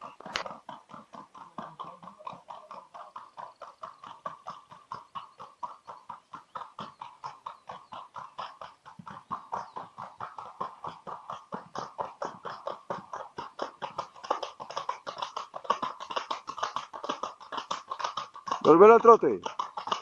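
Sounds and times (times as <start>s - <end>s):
horse hooves beating: 0.0s - 20.0s.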